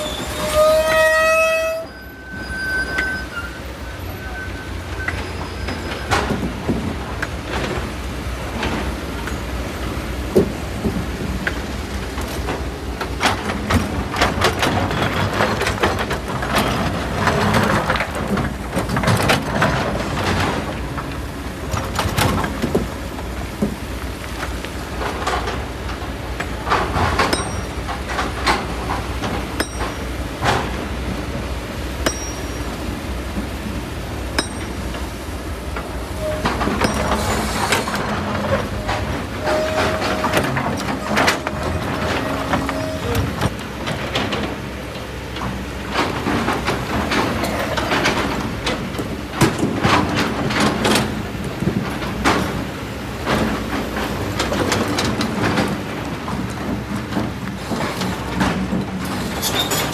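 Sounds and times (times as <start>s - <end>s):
excavator engine running: 4.2s - 59.9s.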